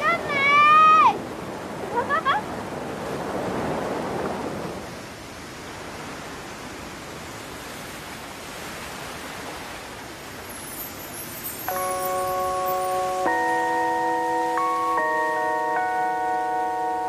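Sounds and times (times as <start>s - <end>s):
ocean surf washing over rocks: 0.0s - 17.0s
wind: 0.0s - 17.0s.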